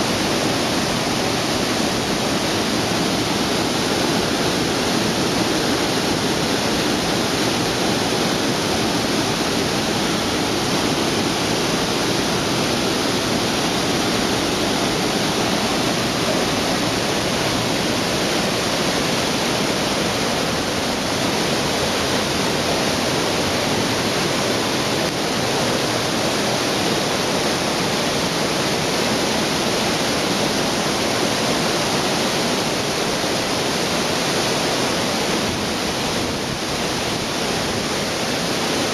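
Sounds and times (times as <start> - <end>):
waterfall splashing into pool: 0.0 - 38.9.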